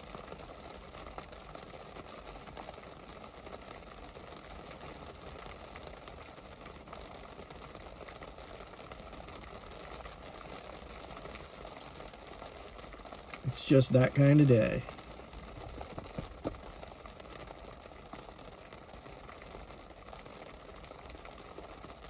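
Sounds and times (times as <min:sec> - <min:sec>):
faint raindrop ticks: 0:00.0 - 0:22.0
rain falling: 0:00.0 - 0:22.0.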